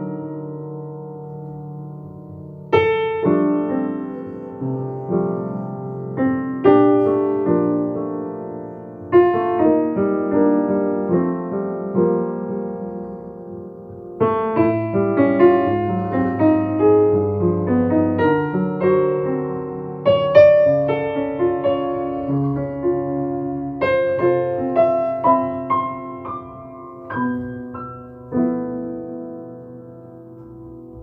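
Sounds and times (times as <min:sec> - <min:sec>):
piano playing chords and melody: 0:00.0 - 0:31.0.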